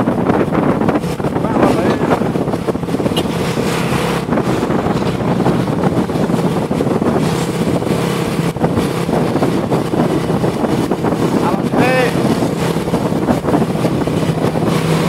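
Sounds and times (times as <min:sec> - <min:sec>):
road traffic with trucks passing: 0:00.0 - 0:15.0
wind buffeting microphone: 0:00.0 - 0:15.0.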